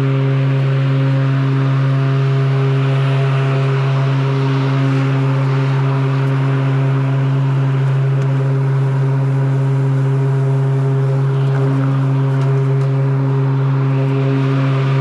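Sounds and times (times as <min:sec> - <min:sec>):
electric lawn mower motor hum: 0:00.0 - 0:15.0
mower blades cutting grass: 0:00.0 - 0:15.0.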